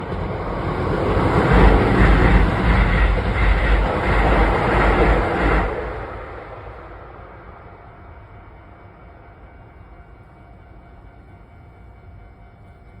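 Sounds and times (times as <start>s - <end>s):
train passing at speed: 0.0s - 13.0s
wheels rushing on rail: 0.0s - 13.0s.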